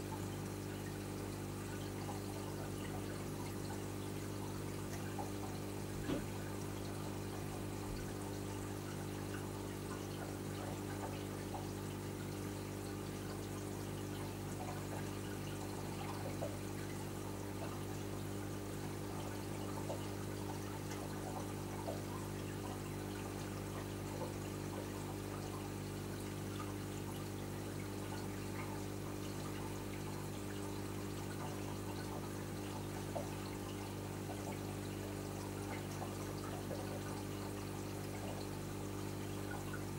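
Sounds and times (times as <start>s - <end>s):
pump hum: 0.0s - 39.9s
water trickling and pouring: 0.0s - 39.9s.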